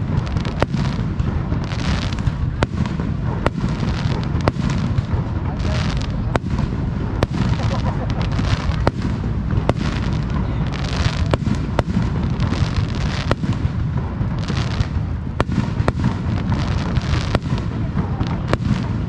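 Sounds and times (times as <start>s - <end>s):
firework crackling: 0.0s - 19.0s
firework shells bursting: 0.0s - 19.0s
low rumble of launches: 0.0s - 19.0s.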